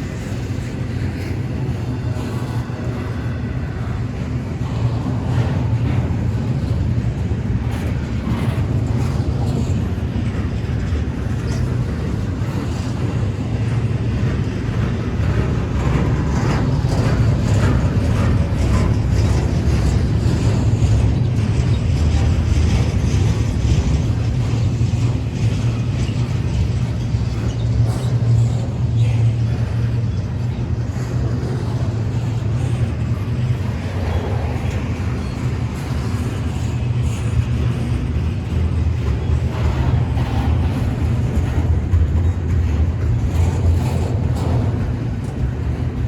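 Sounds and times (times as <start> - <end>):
train rumbling on rails: 0.0 - 46.0.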